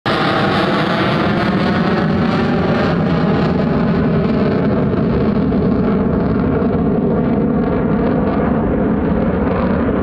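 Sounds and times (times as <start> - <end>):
fighter jet engine roar: 0.1 - 10.0.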